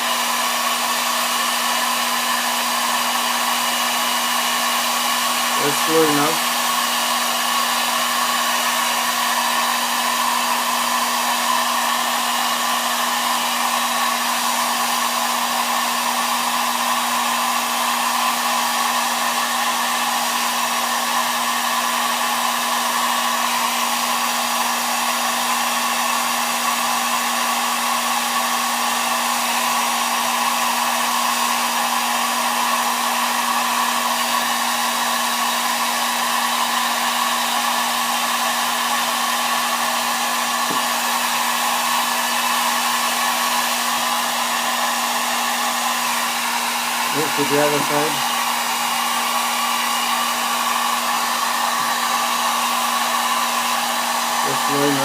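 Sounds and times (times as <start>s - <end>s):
hot-air blower rushing: 0.0s - 55.0s.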